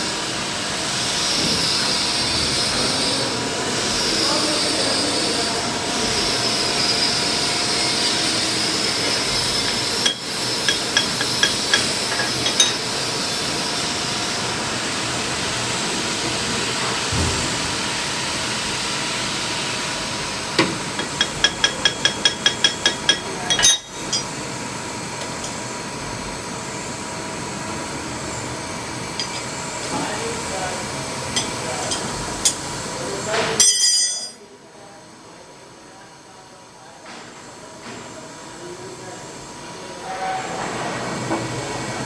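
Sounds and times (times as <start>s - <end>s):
machine-shop hum: 0.0s - 42.0s.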